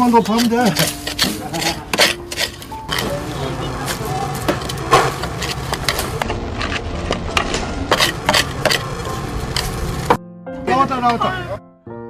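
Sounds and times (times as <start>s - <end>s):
knocks and scrapes: 0.0s - 10.2s.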